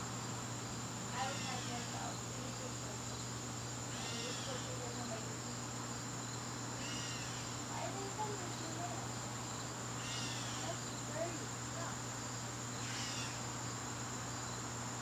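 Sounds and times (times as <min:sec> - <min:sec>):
crickets chirping: 0:00.0 - 0:15.0
faint repeating insect call: 0:00.0 - 0:15.0
low steady hum: 0:00.0 - 0:15.0.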